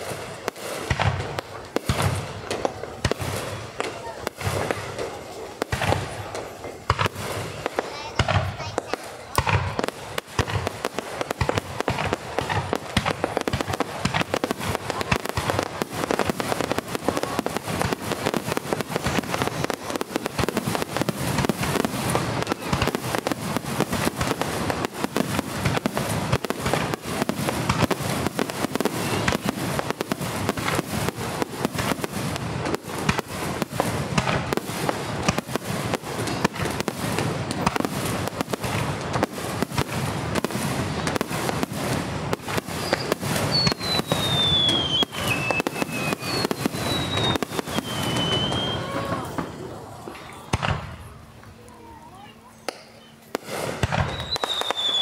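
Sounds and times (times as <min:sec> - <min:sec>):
aerial fireworks bursting: 0:00.0 - 0:51.4, 0:52.1 - 0:55.0.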